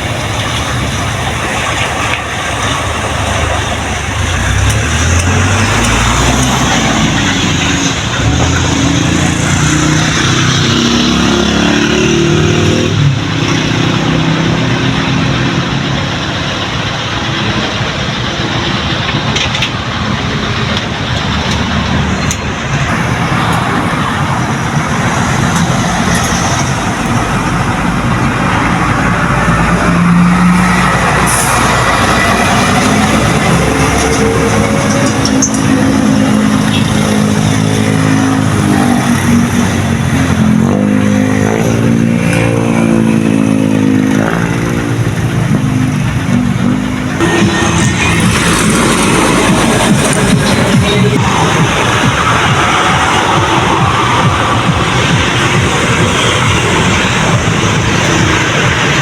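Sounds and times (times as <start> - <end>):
road noise roar: 0.0 - 59.0
truck engine passing: 0.0 - 59.0.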